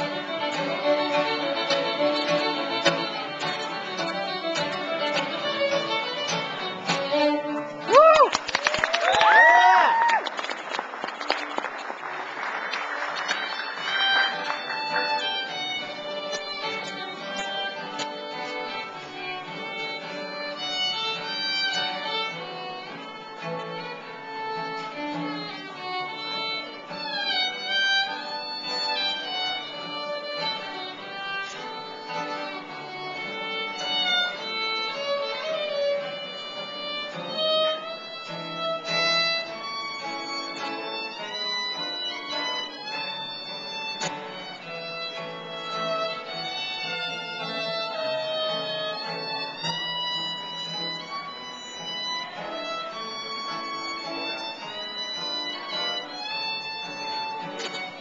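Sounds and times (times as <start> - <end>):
acoustic guitar strumming: 0.0 - 7.9, 13.3 - 58.0
fiddle playing quick tune: 0.0 - 8.4, 12.7 - 58.0.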